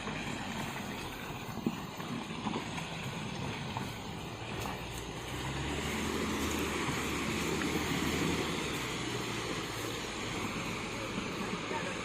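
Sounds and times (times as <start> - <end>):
continuous rushing noise: 0.0 - 12.0
pickup truck engine running: 0.0 - 12.0.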